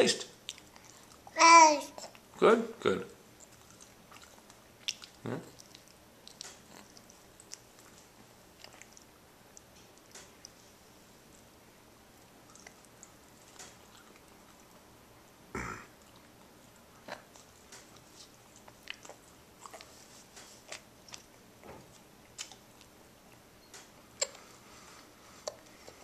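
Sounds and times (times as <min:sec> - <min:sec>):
baby chewing: 0:00.4 - 0:02.3, 0:03.4 - 0:11.5, 0:12.2 - 0:14.8, 0:15.9 - 0:26.0.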